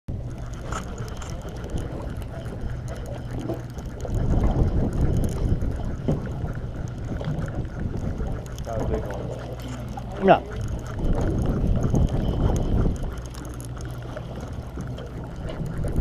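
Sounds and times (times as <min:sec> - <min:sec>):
wind noise on microphone: 0:00.1 - 0:09.4, 0:10.0 - 0:16.0
boat engine humming: 0:00.1 - 0:16.0.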